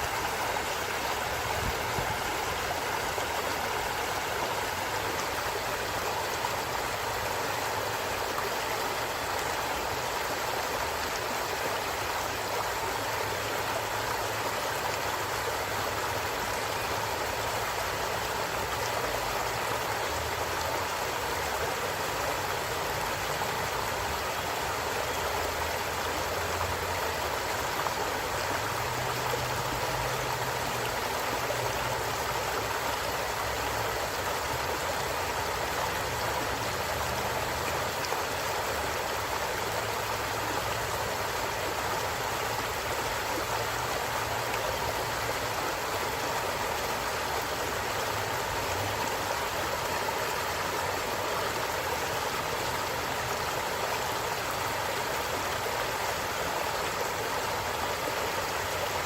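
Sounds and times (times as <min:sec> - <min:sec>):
stream rushing water: 0:00.0 - 0:59.0.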